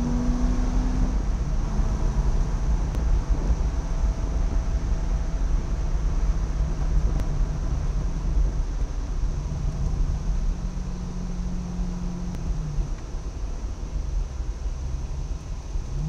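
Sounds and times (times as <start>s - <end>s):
car engine from inside: 0.0s - 16.0s
road and wind rumble: 0.0s - 16.0s.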